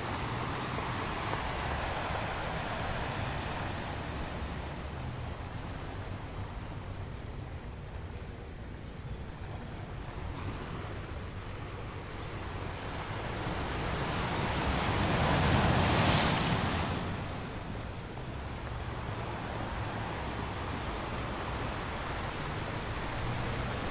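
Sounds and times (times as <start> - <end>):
sea waves rushing: 0.0 - 8.7, 9.3 - 23.9
wind: 0.0 - 23.9.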